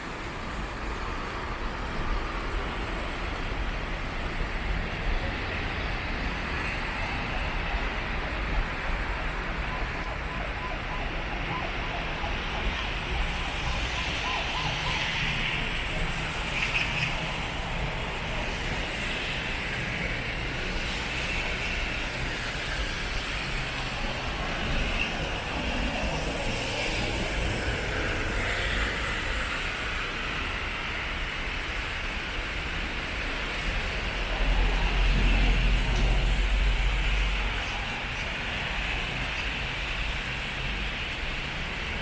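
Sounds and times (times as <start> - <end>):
road traffic rumble in rain: 0.0 - 42.0.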